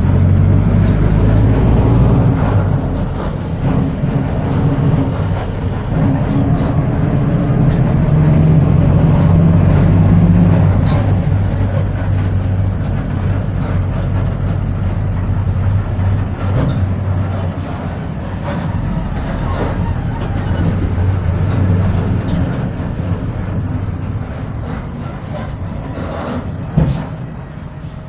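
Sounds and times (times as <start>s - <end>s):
bus body rattling and knocking: 0.0s - 28.0s
bus diesel engine drone: 0.0s - 28.0s.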